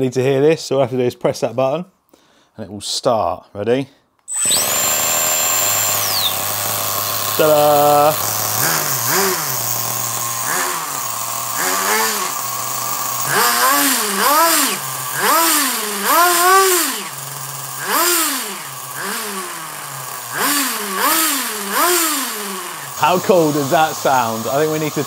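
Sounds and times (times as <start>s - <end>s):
rc car nitro engine revving: 4.3s - 25.0s.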